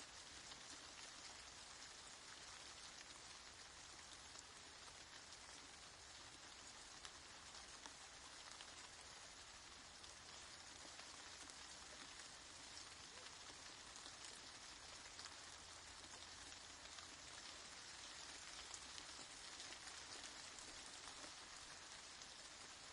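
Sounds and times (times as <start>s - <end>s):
faint rain falling: 0.0s - 22.9s.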